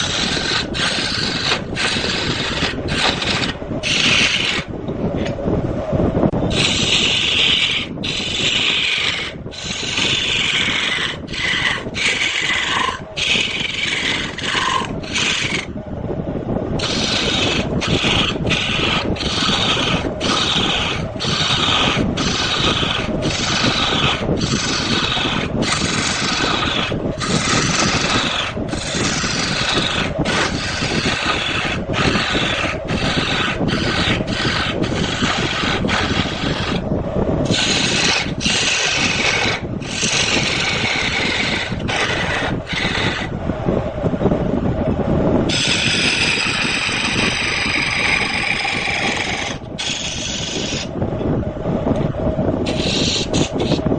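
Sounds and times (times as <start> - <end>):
turning tool scraping wood on lathe: 0.0 - 5.4, 6.4 - 15.7, 16.8 - 43.4, 45.5 - 50.9, 52.6 - 53.9.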